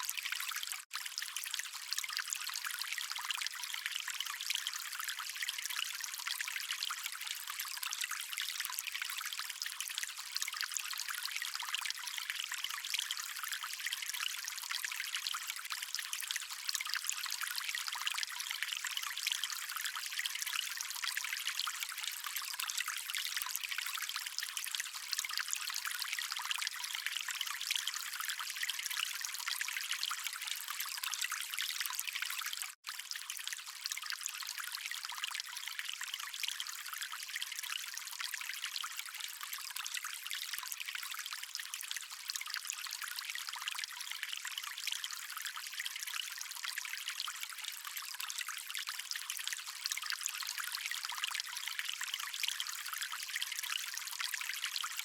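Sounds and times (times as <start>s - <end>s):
water stream trickling: 0.0s - 55.0s.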